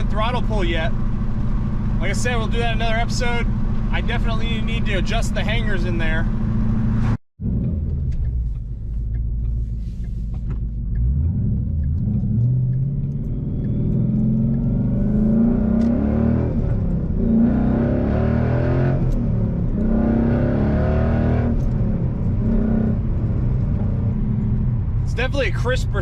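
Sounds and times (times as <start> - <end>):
car exhaust accelerating: 0.0 - 26.0.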